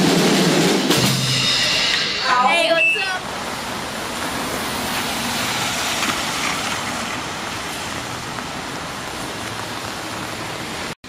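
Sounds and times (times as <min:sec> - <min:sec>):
steady rain on wet street: 0:01.6 - 0:11.0.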